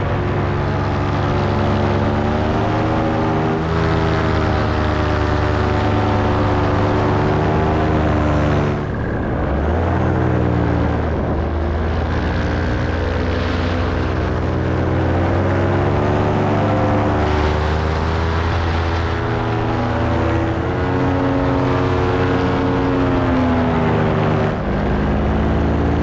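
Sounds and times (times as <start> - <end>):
paramotor engine and propeller: 0.0 - 26.0.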